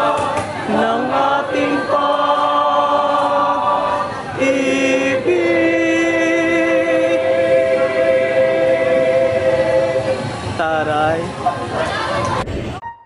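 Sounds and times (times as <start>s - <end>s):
choir singing held chords: 0.0s - 10.6s.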